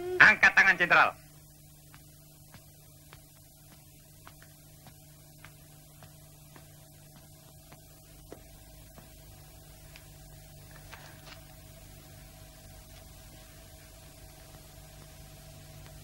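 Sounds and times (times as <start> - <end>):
film soundtrack hum and hiss: 0.0 - 16.0.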